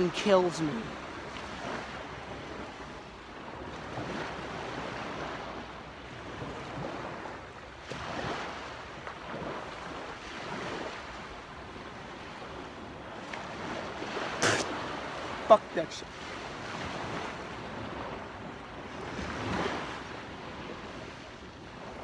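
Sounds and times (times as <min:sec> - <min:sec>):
small waves washing on shore: 0:00.0 - 0:22.0.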